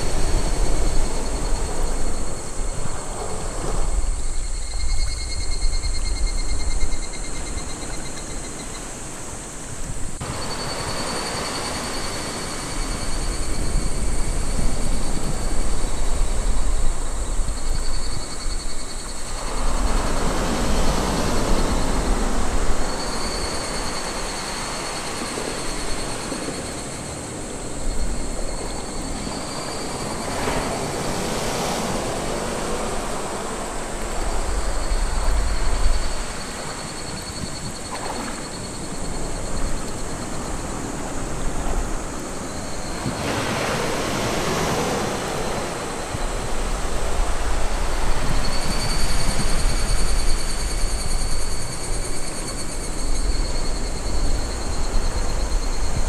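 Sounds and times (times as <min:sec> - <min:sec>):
small waves breaking on beach: 0:07.7 - 0:56.0.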